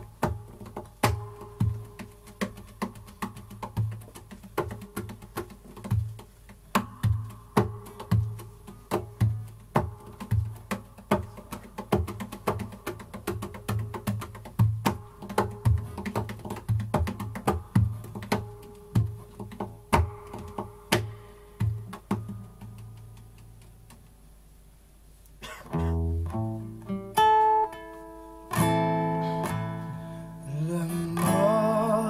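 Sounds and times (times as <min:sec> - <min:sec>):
acoustic guitar percussive strumming: 0:00.0 - 0:24.2, 0:25.4 - 0:32.0.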